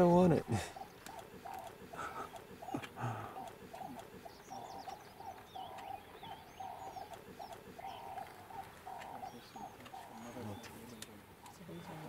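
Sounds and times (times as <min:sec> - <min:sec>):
bird repeating low calls: 0:00.0 - 0:12.0
small birds chirping and whistling: 0:00.0 - 0:12.0.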